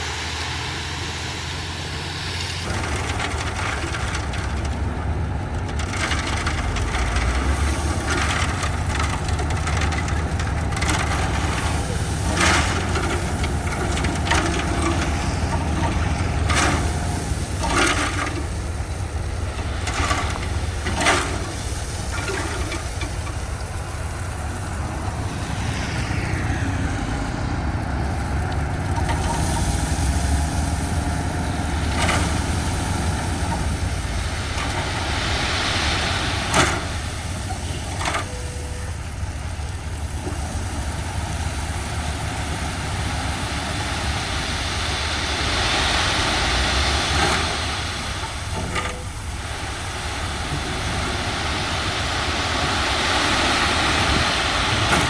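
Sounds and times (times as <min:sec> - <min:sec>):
diesel earthmoving machinery rumbling: 0:00.0 - 0:55.0.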